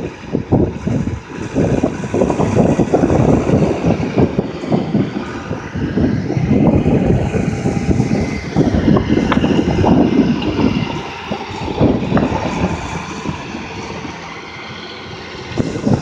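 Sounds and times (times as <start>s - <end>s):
tractor diesel engine running: 0.0s - 16.0s
wind buffeting microphone: 0.0s - 16.0s.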